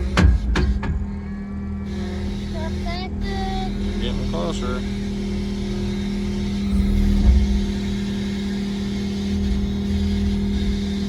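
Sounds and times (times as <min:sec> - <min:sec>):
skid steer engine running: 0:00.0 - 0:11.0.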